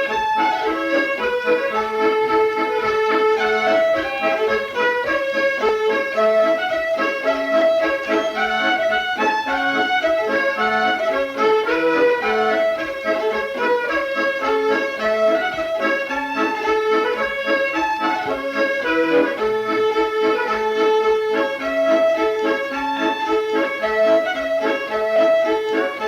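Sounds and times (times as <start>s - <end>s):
accordion tune: 0.0s - 26.0s.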